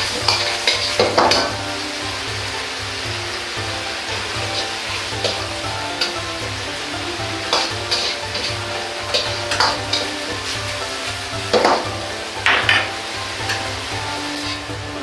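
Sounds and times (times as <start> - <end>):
meat and vegetables sizzling: 0.0 - 15.0
metal ladle scraping a wok: 0.0 - 15.0.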